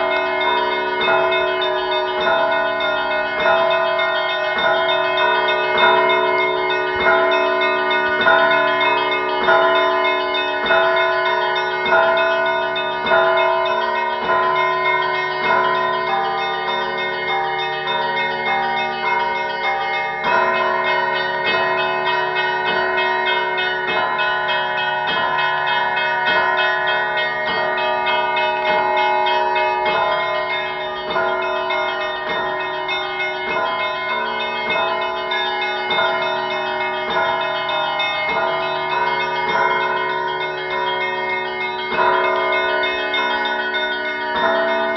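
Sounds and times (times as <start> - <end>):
large bell humming: 0.0 - 44.9
small church bells ringing: 0.0 - 44.9.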